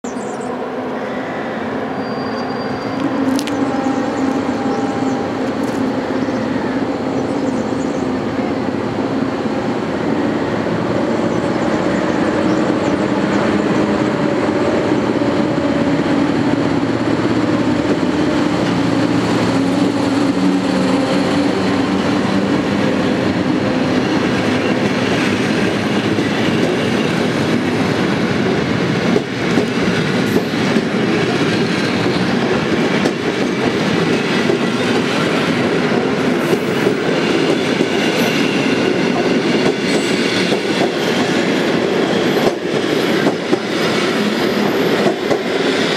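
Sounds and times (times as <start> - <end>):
electric locomotive humming: 0.1 - 45.9
train coaches rolling by: 0.1 - 45.9.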